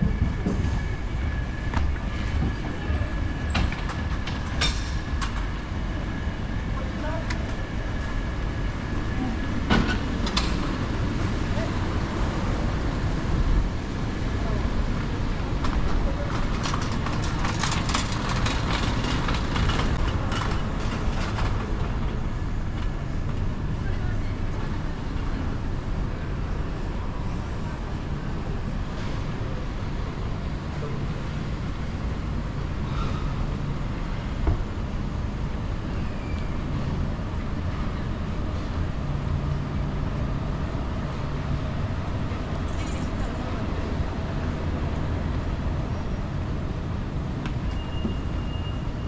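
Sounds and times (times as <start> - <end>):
low traffic rumble: 0.0 - 49.0.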